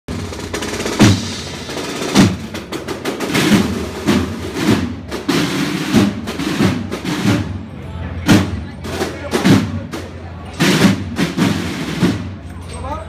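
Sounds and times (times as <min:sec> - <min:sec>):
snare drum rolls: 0:00.1 - 0:07.7, 0:08.3 - 0:12.4
marching band playing: 0:00.1 - 0:12.4.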